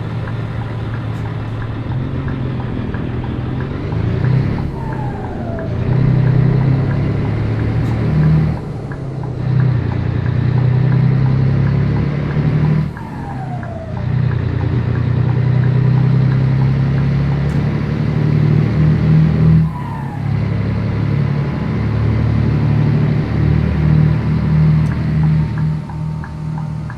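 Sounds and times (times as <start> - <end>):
diesel truck engine running: 0.0 - 26.9.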